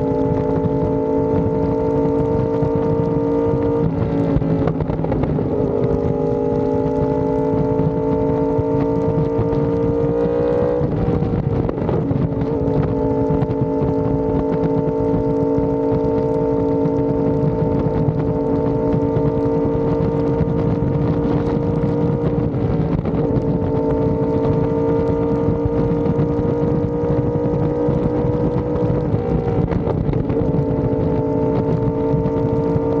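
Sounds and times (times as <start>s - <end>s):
motorcycle engine cruising: 0.0s - 33.0s
wind and road noise: 0.0s - 33.0s.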